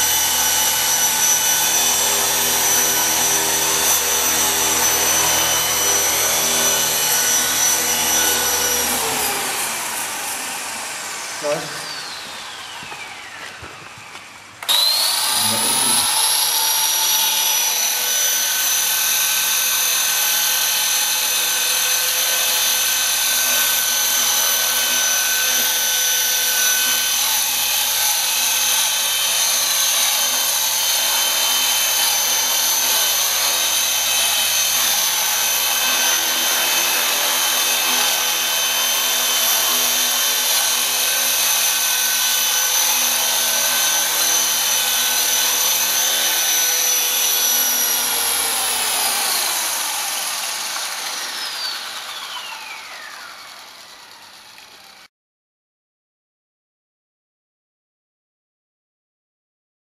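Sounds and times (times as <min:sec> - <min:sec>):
rc helicopter motor whine: 0:00.0 - 0:55.1.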